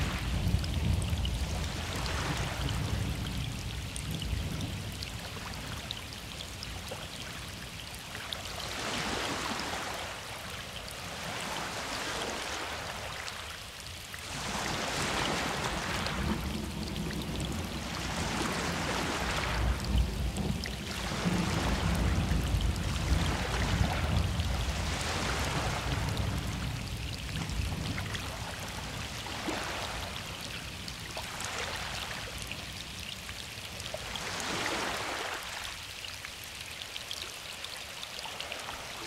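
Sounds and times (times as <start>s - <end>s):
heavy rain falling: 0.0s - 8.1s, 8.7s - 35.9s.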